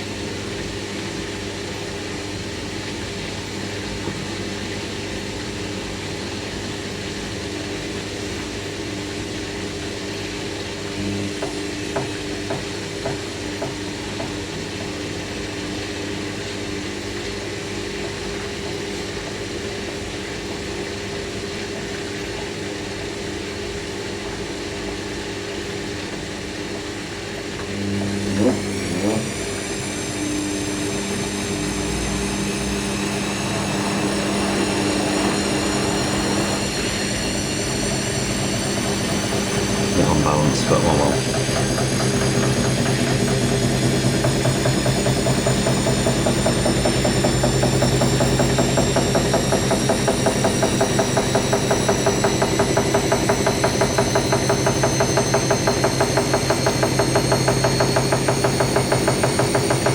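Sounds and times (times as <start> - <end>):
washing machine spinning hum: 0.0 - 59.9.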